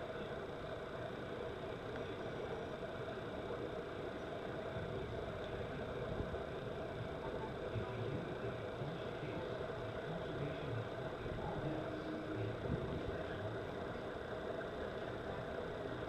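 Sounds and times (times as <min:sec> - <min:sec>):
constant hiss: 0:00.0 - 0:16.0
machine humming: 0:00.0 - 0:16.0.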